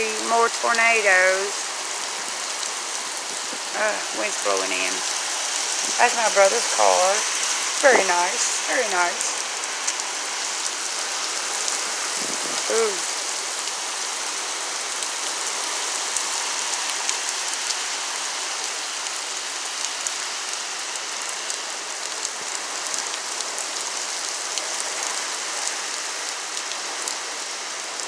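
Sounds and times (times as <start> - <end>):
heavy rain pouring: 0.0 - 28.0
raindrops ticking on surface: 0.0 - 28.0.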